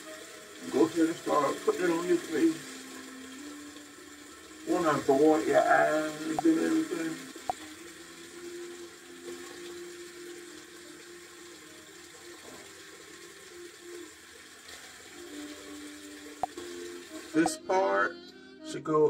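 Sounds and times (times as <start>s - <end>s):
tap water running: 0.0s - 17.6s
faint jazz music: 0.0s - 19.0s.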